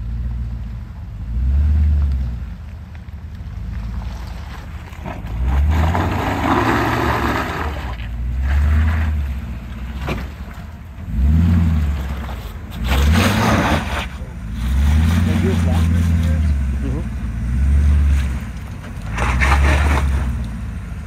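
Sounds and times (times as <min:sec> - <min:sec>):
truck engine rumbling: 0:00.0 - 0:21.0
tyres scraping through mud: 0:01.0 - 0:21.0.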